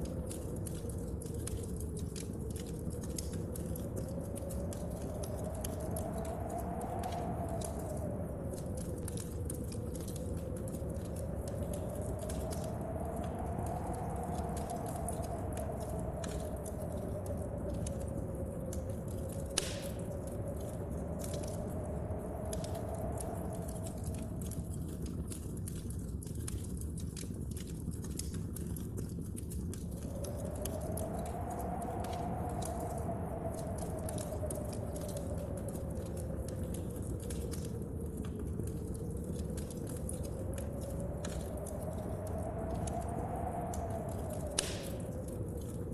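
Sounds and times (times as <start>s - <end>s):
wind moaning: 0.0s - 26.8s, 29.4s - 45.9s
rain: 0.0s - 45.9s
wood fire crackling: 0.0s - 45.9s.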